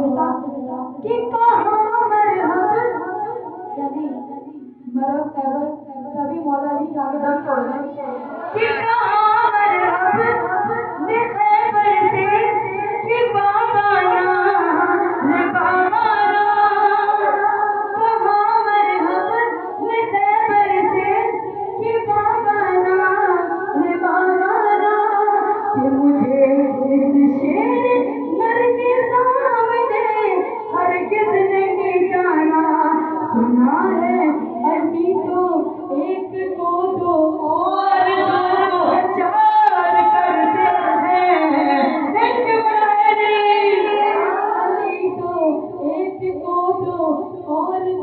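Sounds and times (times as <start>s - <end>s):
woman singing: 0.0s - 48.0s.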